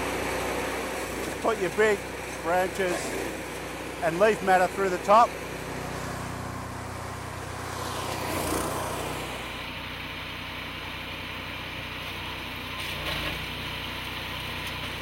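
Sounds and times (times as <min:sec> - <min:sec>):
chipper shredder engine running: 0:00.0 - 0:15.0.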